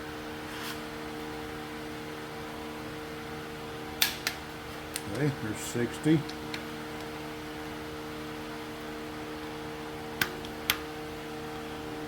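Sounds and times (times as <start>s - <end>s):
shop fan hum: 0.0s - 12.0s.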